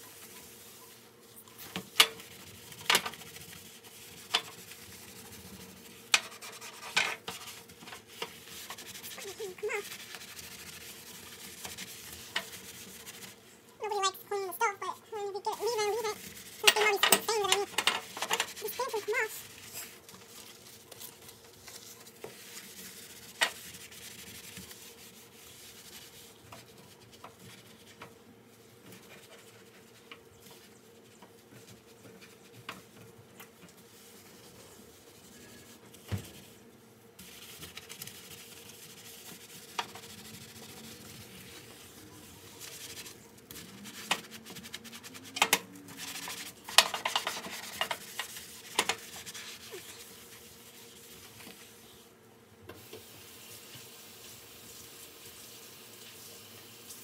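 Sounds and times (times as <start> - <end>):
surfaces being wiped and scrubbed: 0.0 - 57.0.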